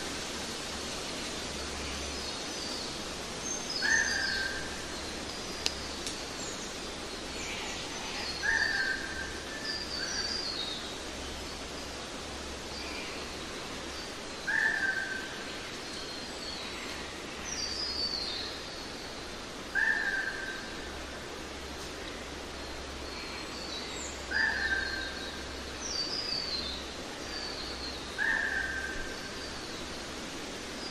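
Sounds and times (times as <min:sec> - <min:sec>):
background hiss: 0:00.0 - 0:30.9.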